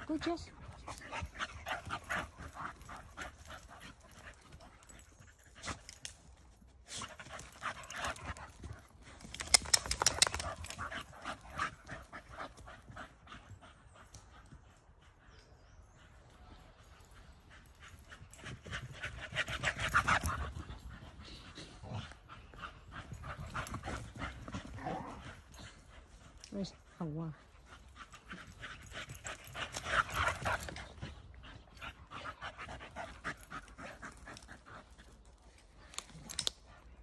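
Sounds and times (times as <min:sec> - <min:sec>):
dogs panting: 0:00.0 - 0:37.0.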